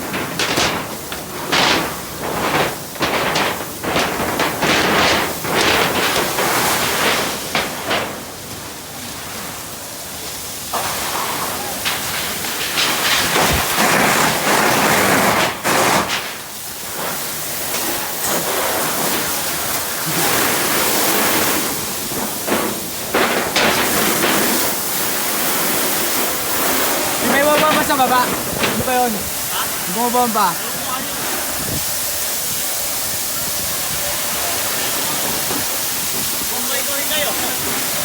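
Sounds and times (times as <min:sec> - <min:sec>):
fire hose spraying water: 0:00.0 - 0:38.0.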